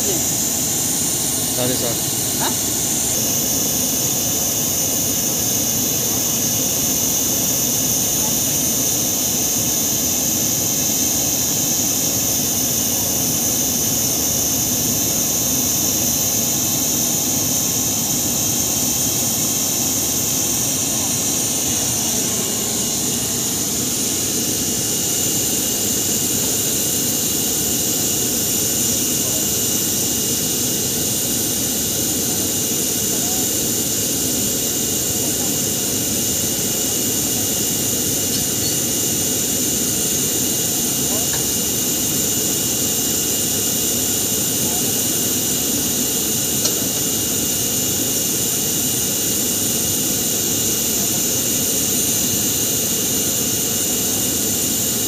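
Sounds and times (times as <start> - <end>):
jet turbine whine and rumble: 0.0 - 55.0.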